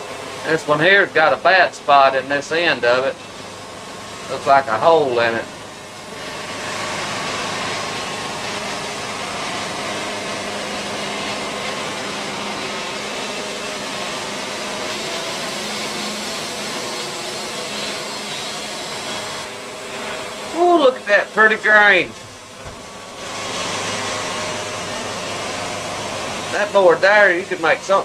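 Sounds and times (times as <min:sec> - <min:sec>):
band sawmill cutting log: 0:00.0 - 0:28.0.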